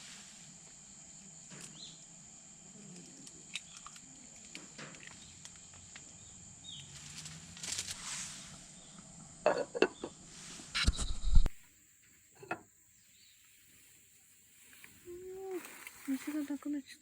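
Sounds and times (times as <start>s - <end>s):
high-pitched insect chorus: 0.0s - 9.4s, 11.5s - 17.0s.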